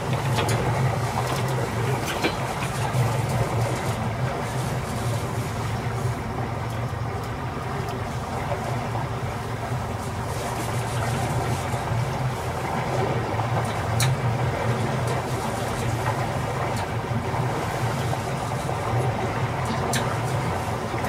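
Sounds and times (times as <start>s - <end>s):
motorboat engine running: 0.0s - 21.0s.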